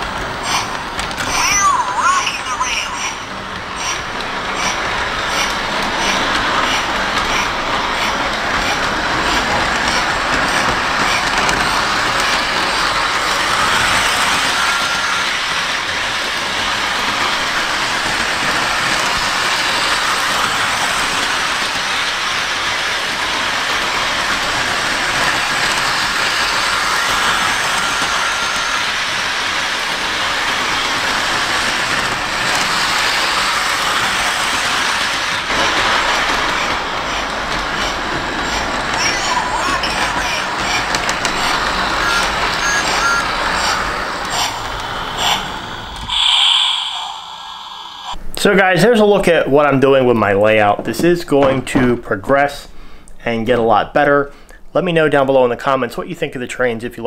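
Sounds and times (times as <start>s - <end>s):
model train running on rails: 0.0s - 48.2s.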